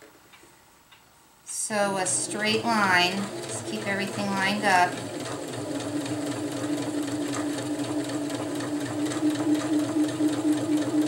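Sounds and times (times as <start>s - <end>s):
sewing machine motor hum: 1.7s - 11.0s
sewing needle ticking: 2.0s - 11.0s.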